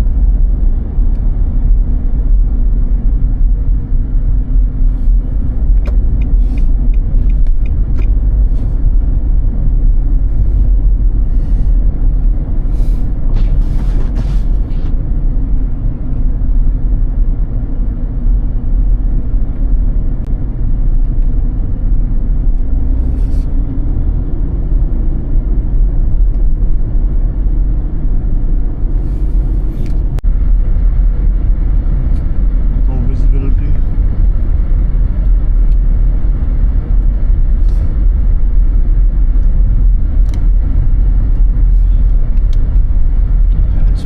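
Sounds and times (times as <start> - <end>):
car driving on snowy road: 0.0 - 44.0.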